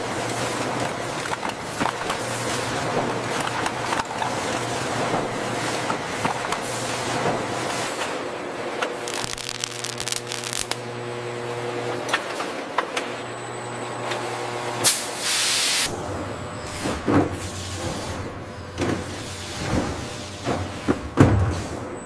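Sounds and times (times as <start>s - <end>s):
machinery humming: 0.0s - 15.2s, 15.8s - 22.0s.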